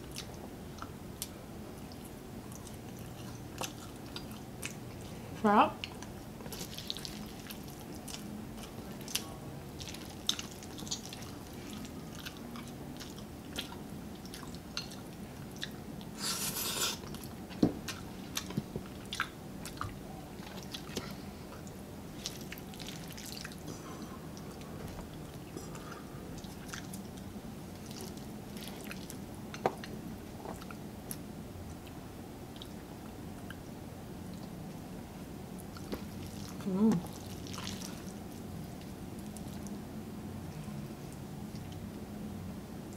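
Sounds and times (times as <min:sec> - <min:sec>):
chewing food: 0:00.0 - 0:05.2, 0:05.8 - 0:34.8, 0:35.6 - 0:39.8.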